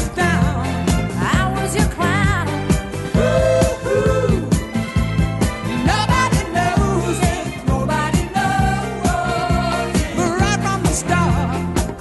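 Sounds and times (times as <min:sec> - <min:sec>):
pop song with singing: 0:00.0 - 0:12.0.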